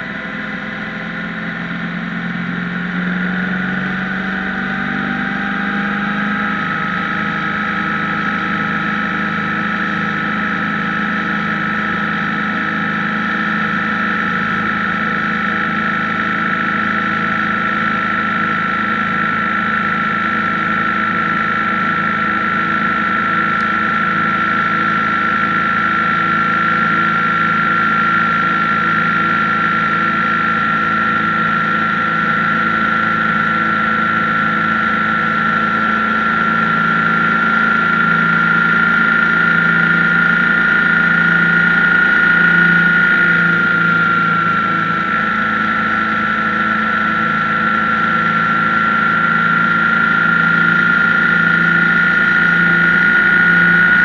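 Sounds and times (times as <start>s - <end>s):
high engine whine: 0.0s - 54.0s
motorcycle engine running: 0.0s - 54.0s.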